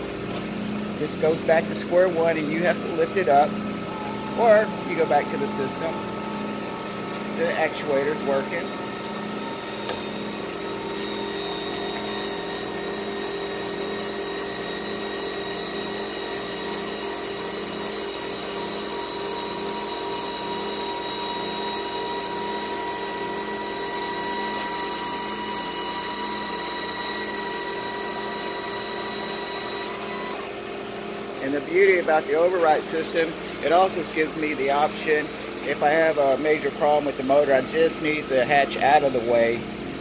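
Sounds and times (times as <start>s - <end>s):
electric linear actuators whining: 0.6s - 40.0s.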